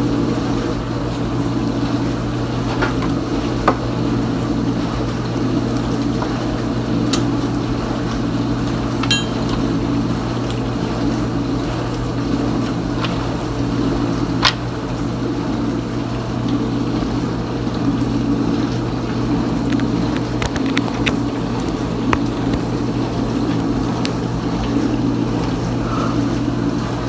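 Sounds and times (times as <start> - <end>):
dishwasher pump motor hum: 0.0 - 27.0.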